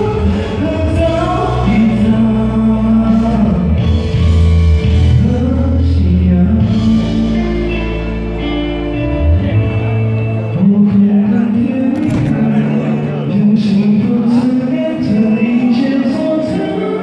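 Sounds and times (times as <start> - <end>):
man singing into a microphone: 0.0 - 8.5, 9.4 - 17.0
bass-heavy backing track: 0.0 - 17.0.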